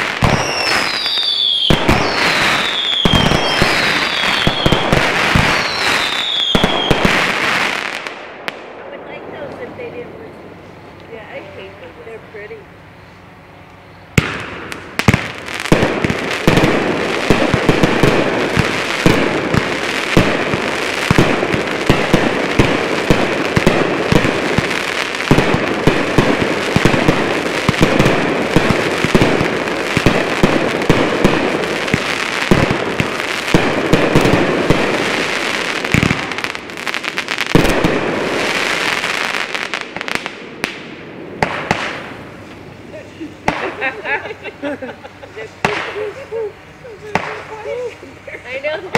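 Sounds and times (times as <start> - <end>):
continuous rushing hiss: 0.0 - 48.9
firework aerial bursts: 0.0 - 48.9.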